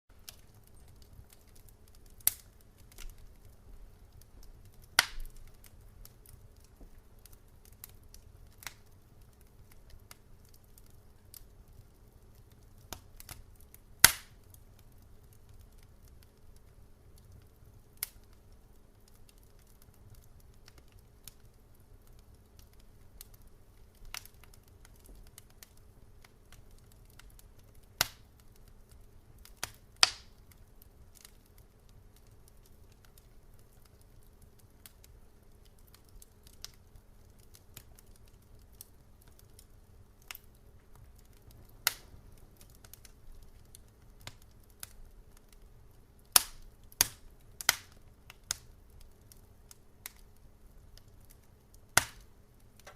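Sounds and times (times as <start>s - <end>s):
faint low steady background: 0.1s - 52.9s
wood fire crackling: 0.1s - 52.9s.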